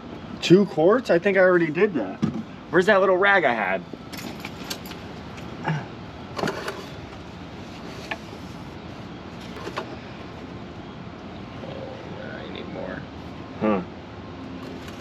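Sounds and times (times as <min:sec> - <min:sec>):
steady background hiss: 0:00.0 - 0:14.9.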